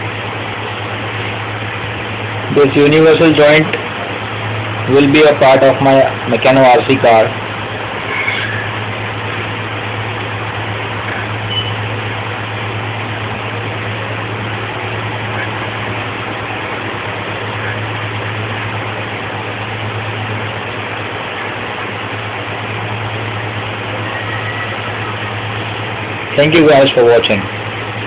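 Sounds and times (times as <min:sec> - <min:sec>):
constant low hum: 0:00.0 - 0:28.0
steady hiss: 0:00.0 - 0:28.0.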